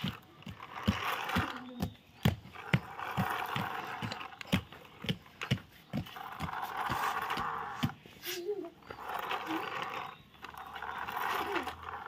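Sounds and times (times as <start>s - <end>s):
toy truck rolling on concrete: 0.0s - 12.0s
toy wheels clicking: 0.0s - 12.0s.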